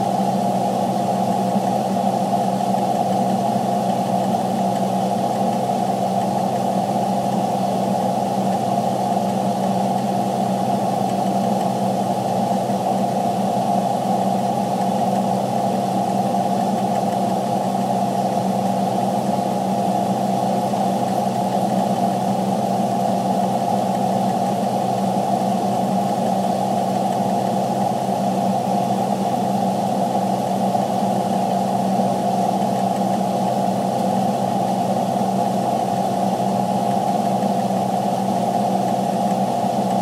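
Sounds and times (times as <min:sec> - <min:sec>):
truck engine drone in cab: 0:00.0 - 0:40.0.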